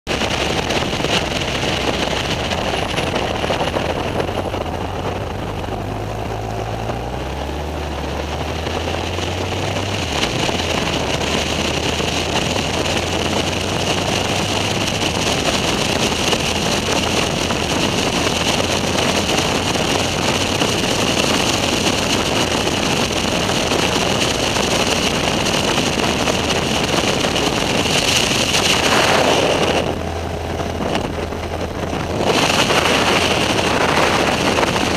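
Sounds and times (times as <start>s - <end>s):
road noise: 0.0s - 34.9s
motorcycle engine drone: 0.1s - 34.9s
wind noise on microphone: 0.1s - 34.9s.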